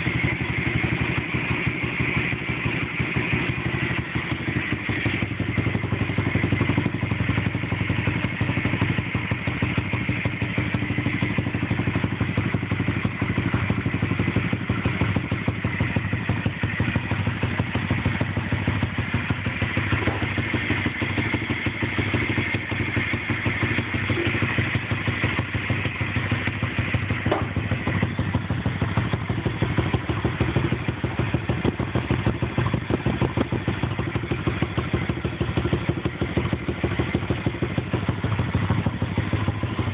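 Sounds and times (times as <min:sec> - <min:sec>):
motorbike engine idling: 0:00.0 - 0:39.9.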